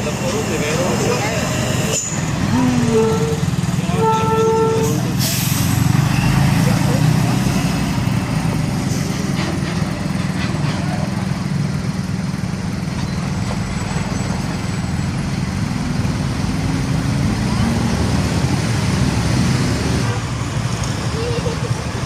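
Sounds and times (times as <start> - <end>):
diesel truck engine hum: 0.0 - 22.0
road traffic: 0.0 - 22.0.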